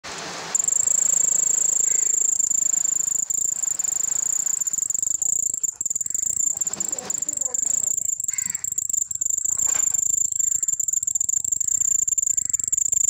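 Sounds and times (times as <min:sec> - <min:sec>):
cricket trilling: 0:00.6 - 0:13.0.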